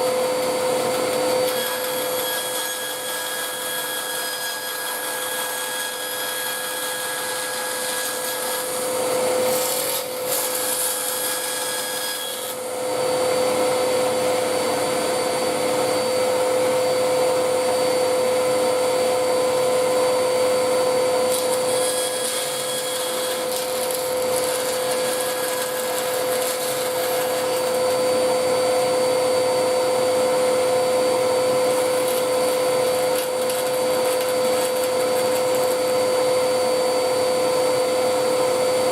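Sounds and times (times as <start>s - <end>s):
power tool motor running: 0.0s - 38.9s.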